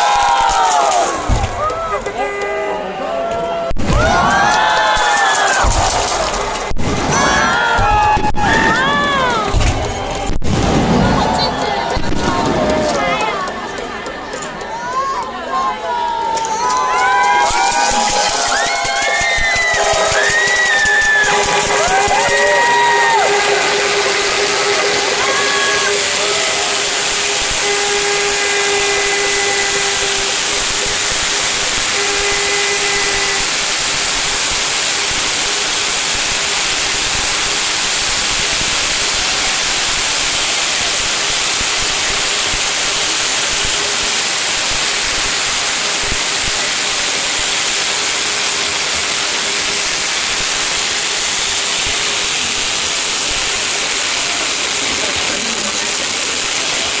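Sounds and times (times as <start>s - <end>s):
held horn-like tones: 0.0s - 14.4s, 16.7s - 57.0s
fireworks hissing: 0.0s - 57.0s.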